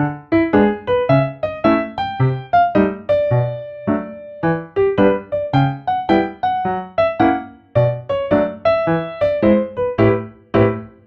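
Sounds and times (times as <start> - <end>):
bright plucky piano melody: 0.0 - 11.0.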